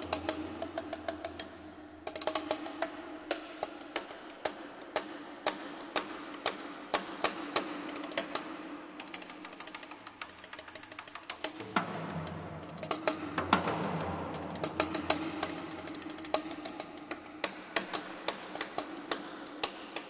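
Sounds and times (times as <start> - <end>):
sticks clicking and tapping: 0.0 - 20.0.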